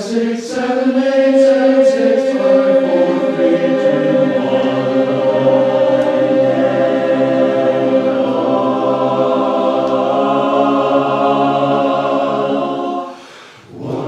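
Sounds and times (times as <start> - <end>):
chorus holding a sustained chord: 0.2 - 14.0.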